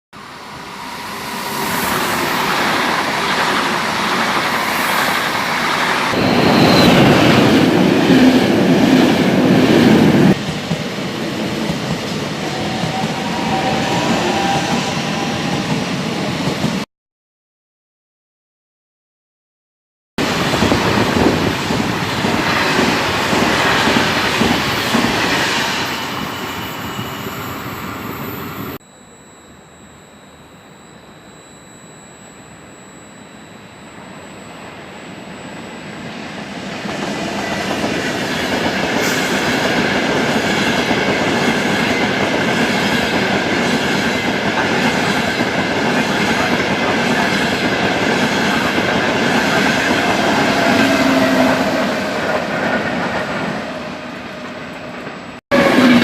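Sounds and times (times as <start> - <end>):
steady high tone: 0.2 - 16.6, 22.4 - 56.0
train passing: 0.2 - 16.8, 20.2 - 28.8, 34.0 - 56.0.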